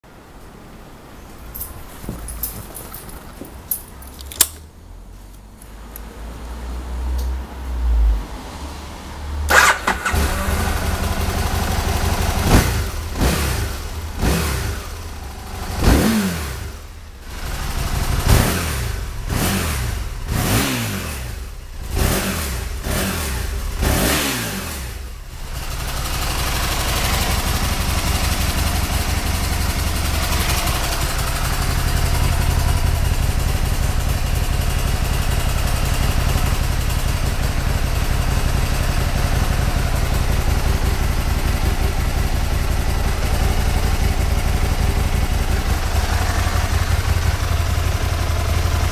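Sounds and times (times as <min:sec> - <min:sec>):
motorcycle engine revving: 0:05.8 - 0:48.9.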